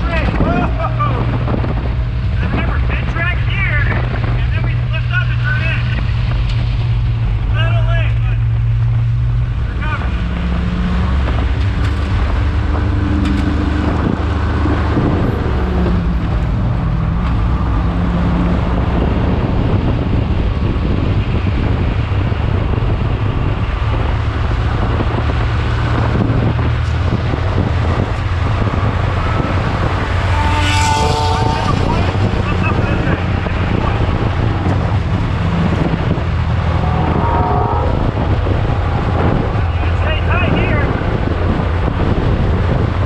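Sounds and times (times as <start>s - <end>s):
wind on microphone: 0.0s - 7.5s, 8.6s - 43.0s
race car engine running: 0.0s - 43.0s.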